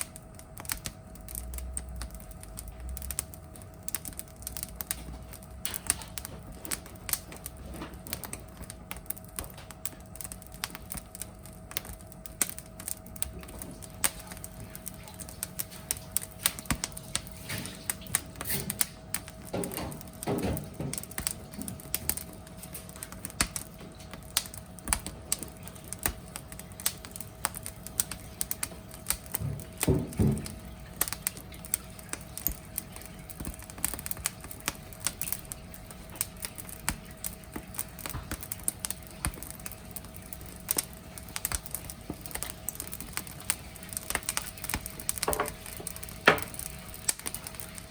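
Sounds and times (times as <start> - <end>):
burning firewood crackling: 0.0 - 47.9.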